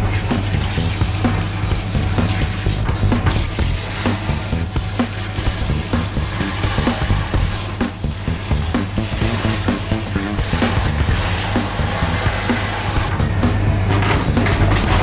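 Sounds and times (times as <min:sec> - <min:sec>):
background music with a beat: 0:00.0 - 0:15.0.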